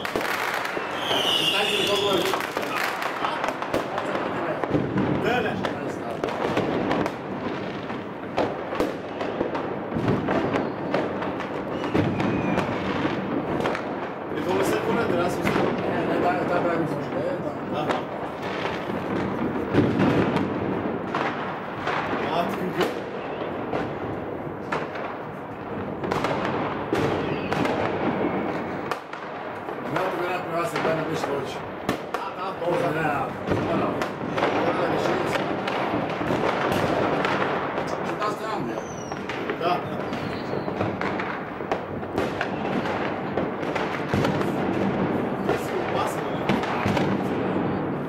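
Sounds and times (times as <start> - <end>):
continuous crackling: 0.0 - 48.0
fireworks bangs and pops: 0.0 - 48.0.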